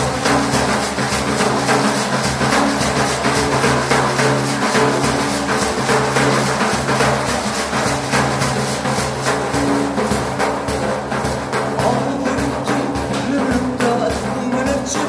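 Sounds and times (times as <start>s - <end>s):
frame drum played by hand: 0.0s - 15.0s.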